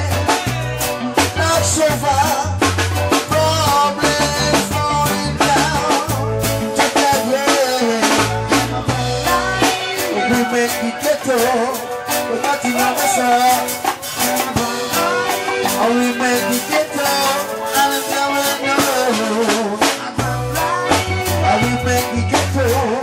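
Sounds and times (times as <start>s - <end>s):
people singing: 0.0s - 2.5s, 3.3s - 23.0s
live reggae band: 0.0s - 23.0s.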